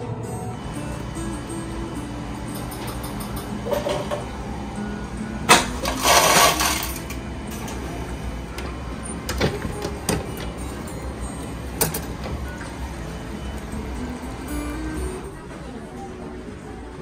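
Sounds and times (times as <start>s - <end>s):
drink dispensing rush: 0.6s - 15.5s.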